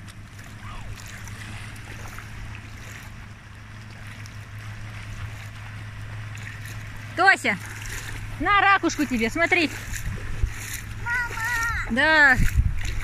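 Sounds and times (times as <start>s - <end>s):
seawater sloshing and splashing: 0.0s - 13.0s
steady low hum: 0.0s - 13.0s.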